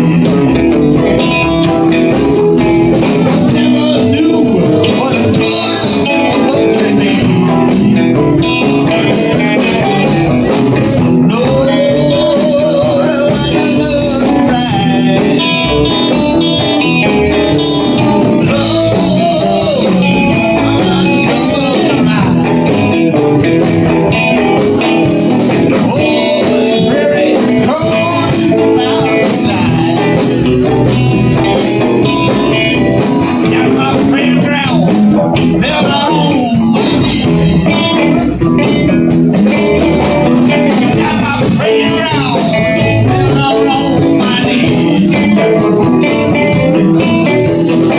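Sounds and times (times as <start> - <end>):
bass guitar: 0.0 - 47.9
drum kit: 0.0 - 47.9
electric guitars: 0.0 - 47.9.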